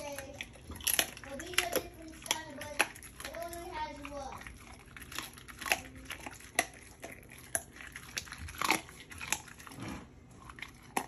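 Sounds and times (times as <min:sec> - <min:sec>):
dog chewing raw food: 0:00.0 - 0:11.0.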